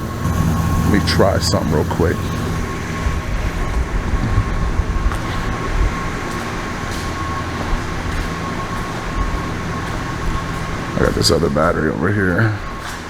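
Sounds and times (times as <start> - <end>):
thin whine: 0.0 - 13.0
vehicle engine idling: 0.0 - 13.0.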